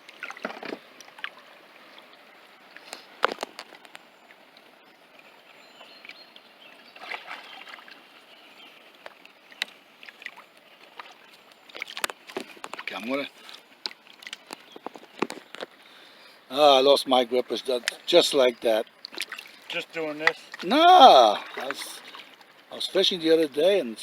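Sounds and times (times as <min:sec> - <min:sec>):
water lapping against hull: 0:00.0 - 0:16.5, 0:17.2 - 0:23.8.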